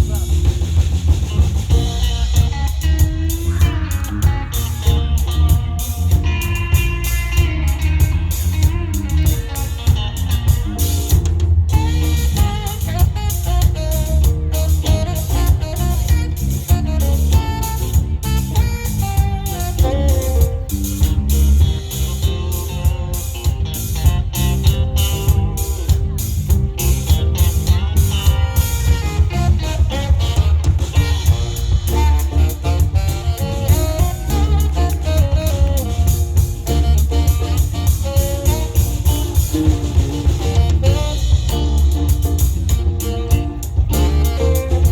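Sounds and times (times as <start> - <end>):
bass guitar: 0.0 - 44.9
drum kit: 0.0 - 44.9
electric guitar: 0.0 - 44.9
melodic lead line: 1.3 - 44.9.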